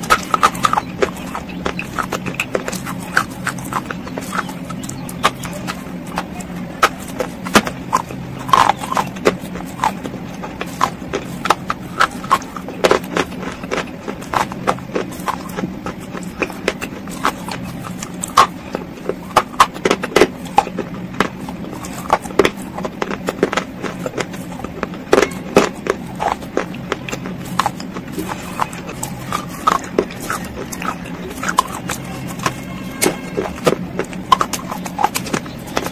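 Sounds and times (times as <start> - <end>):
crunching and chewing: 0.0 - 35.9
steady low hum: 0.0 - 35.9.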